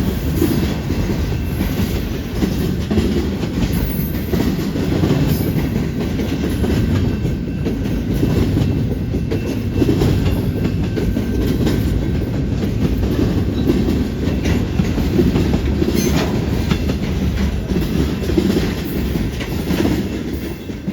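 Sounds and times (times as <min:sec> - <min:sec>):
freight train rumbling past: 0:00.0 - 0:20.9
train wheels clicking on track: 0:00.0 - 0:20.9.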